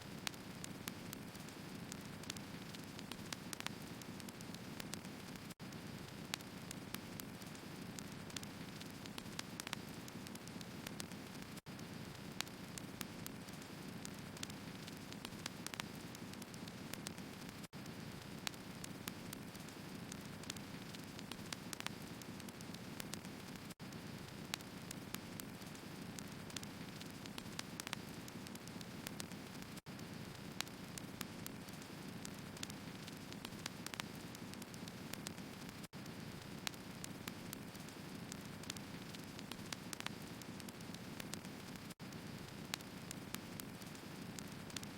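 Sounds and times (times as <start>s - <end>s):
wood crackling and popping: 0.1s - 44.9s.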